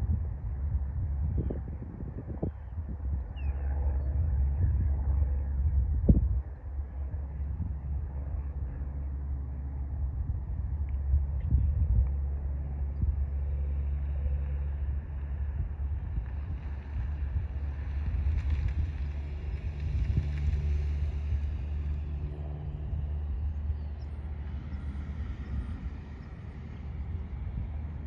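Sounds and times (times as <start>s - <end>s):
propeller aircraft engine: 0.0s - 28.0s
wind rumble on microphone: 0.0s - 28.0s.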